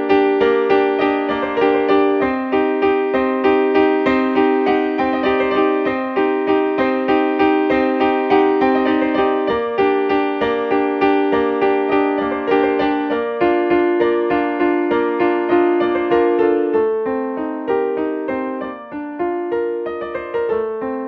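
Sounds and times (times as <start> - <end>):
keyboard repeated notes: 0.0 - 21.0.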